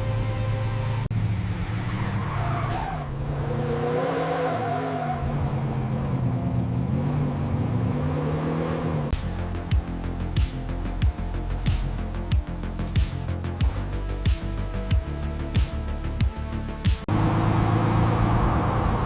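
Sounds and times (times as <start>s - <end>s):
tyres skidding and squealing: 0.0s - 15.9s, 17.0s - 19.0s
car engine: 0.0s - 19.0s.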